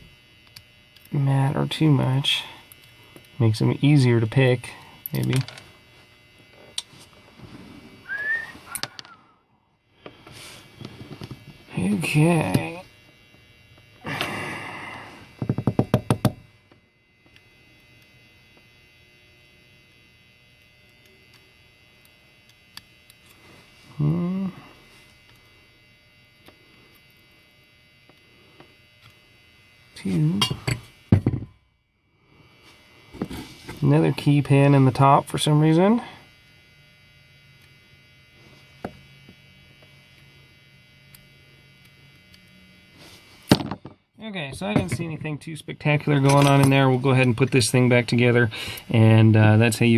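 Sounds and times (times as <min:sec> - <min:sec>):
faint hum: 0:00.0 - 0:49.9.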